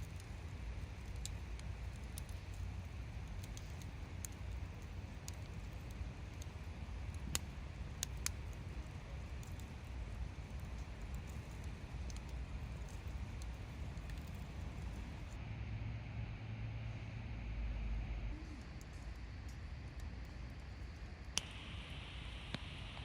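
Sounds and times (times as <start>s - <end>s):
campfire crackling: 0.0s - 15.4s, 18.4s - 23.0s
low steady rumble: 0.0s - 23.0s.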